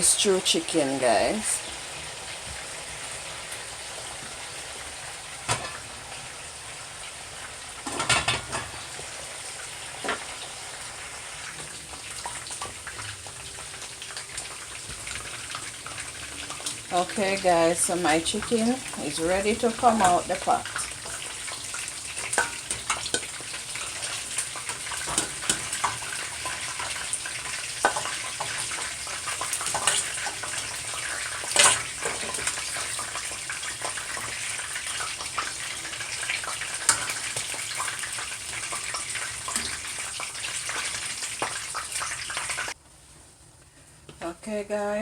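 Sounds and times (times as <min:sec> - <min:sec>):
chicken frying in hot oil: 0:00.0 - 0:45.0.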